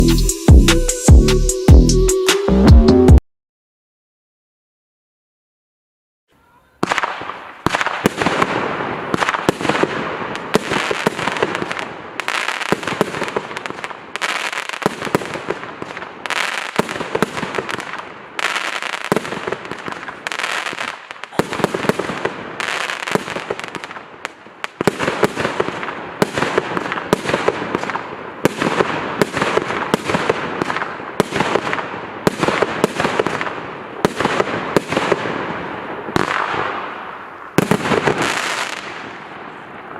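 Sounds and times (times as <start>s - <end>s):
fireworks launches and bangs: 6.8s - 39.9s.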